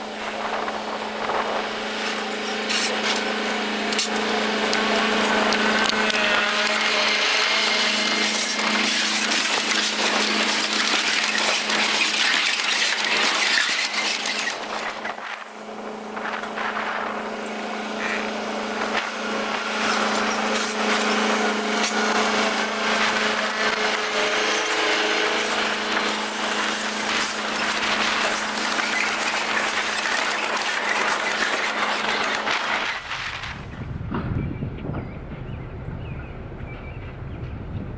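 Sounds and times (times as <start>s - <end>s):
diesel locomotive engine droning: 0.0s - 37.9s
train rattling over track: 0.0s - 37.9s.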